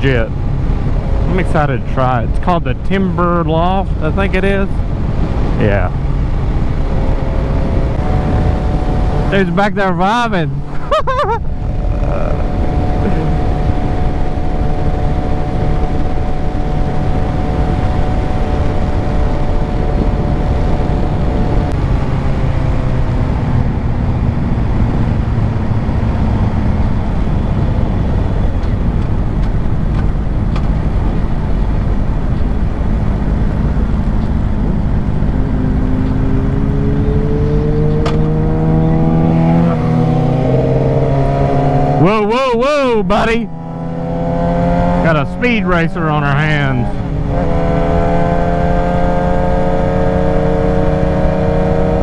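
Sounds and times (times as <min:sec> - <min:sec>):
motorcycle engine cruising and revving: 0:00.0 - 0:52.0
wind rush: 0:00.3 - 0:42.3.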